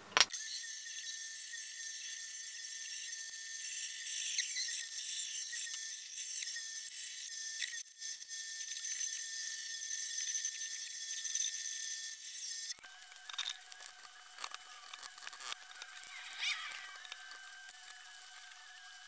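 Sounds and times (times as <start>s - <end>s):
bandsaw whining: 0.4s - 19.0s.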